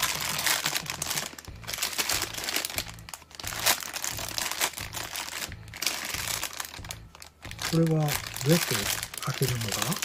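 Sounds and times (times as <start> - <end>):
background music: 0.0 - 10.0
plastic packaging crinkling: 0.0 - 10.0.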